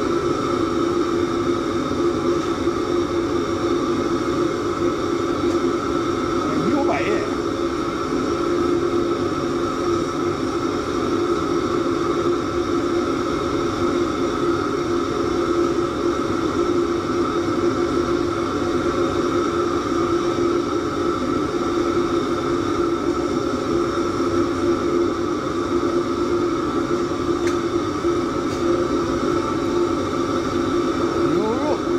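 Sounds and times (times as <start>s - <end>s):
kitchen stove roaring: 0.0s - 31.9s.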